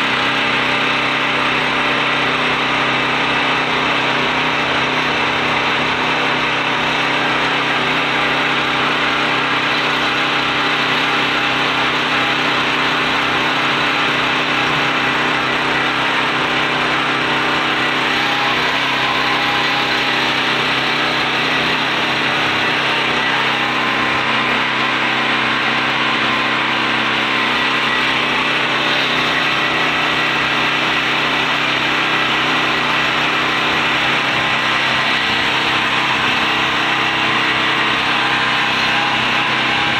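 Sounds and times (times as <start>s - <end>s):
portable generator running: 0.0s - 39.9s.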